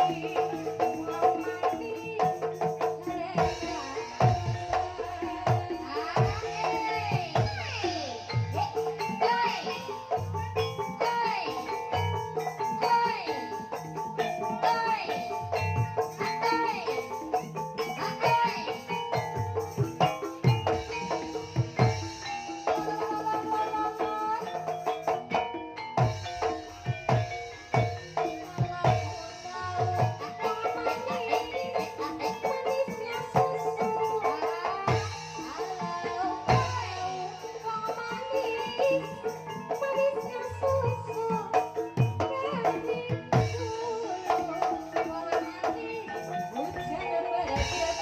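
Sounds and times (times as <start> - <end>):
deep hand drum beats: 0.0 - 12.8, 13.4 - 48.0.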